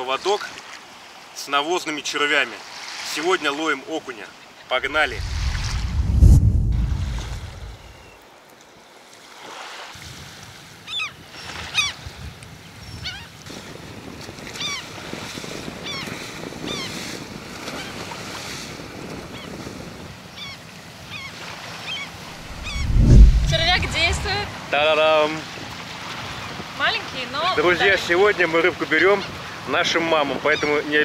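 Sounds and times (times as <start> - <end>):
small waves on shore: 0.0 - 5.9, 6.8 - 31.0
wind: 0.0 - 31.0.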